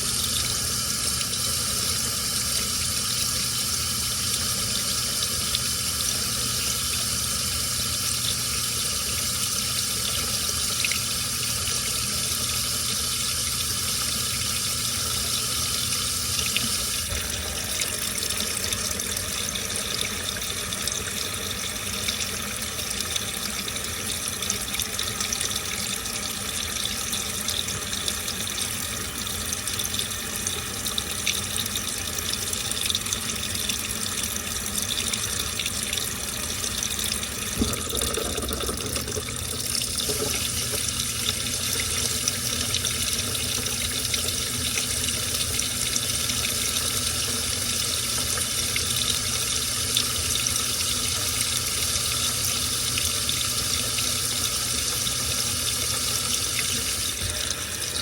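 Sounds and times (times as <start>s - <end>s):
washing machine water rushing: 0.0s - 58.0s.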